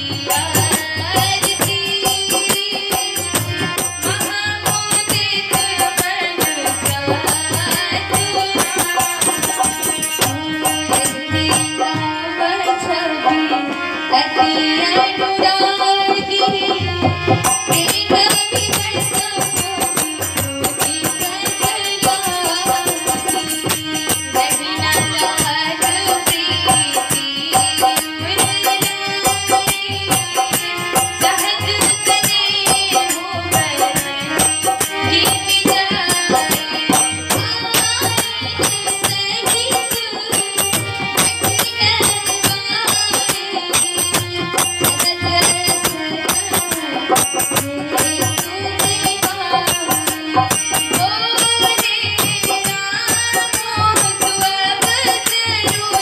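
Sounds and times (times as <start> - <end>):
drum keeping steady beat: 0.0 - 12.1, 15.5 - 56.0
harmonium melody over drone: 0.0 - 56.0.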